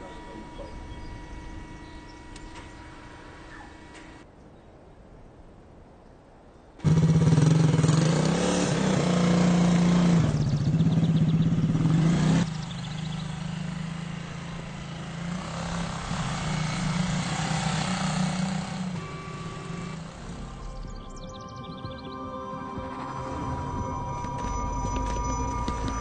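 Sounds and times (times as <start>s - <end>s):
vehicle engine running: 0.0s - 4.2s, 6.8s - 21.8s, 22.8s - 26.0s.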